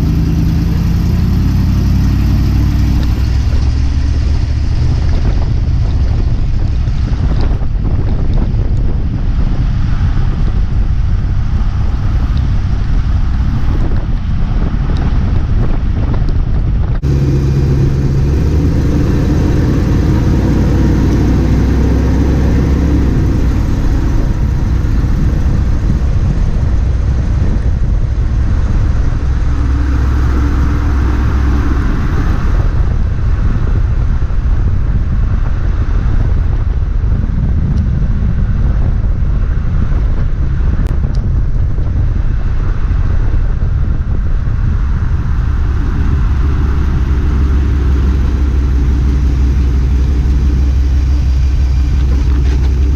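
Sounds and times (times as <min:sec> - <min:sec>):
vehicle engine drone: 0:00.0 - 0:52.9
wind noise on microphone: 0:00.0 - 0:52.9.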